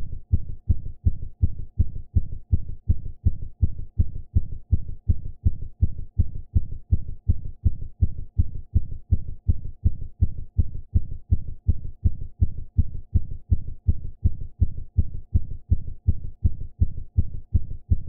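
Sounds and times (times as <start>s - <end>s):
muffled heartbeat thumps: 0.0s - 18.0s.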